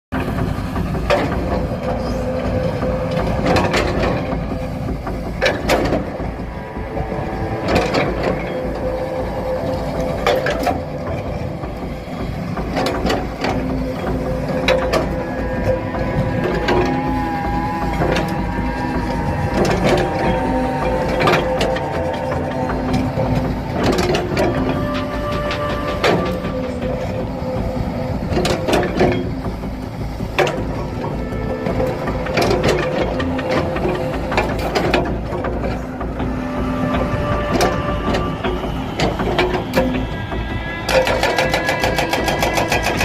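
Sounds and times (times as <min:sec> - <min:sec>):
excavator engine and hydraulic hum: 0:00.1 - 0:43.0.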